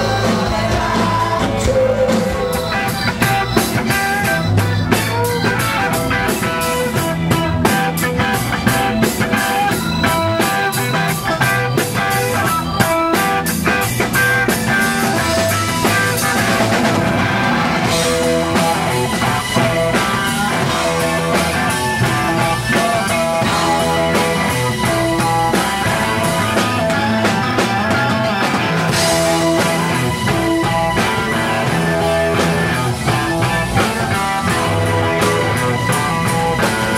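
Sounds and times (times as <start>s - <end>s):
bass guitar: 0.0s - 36.9s
distorted electric guitars: 0.0s - 36.9s
drum kit: 0.0s - 36.9s.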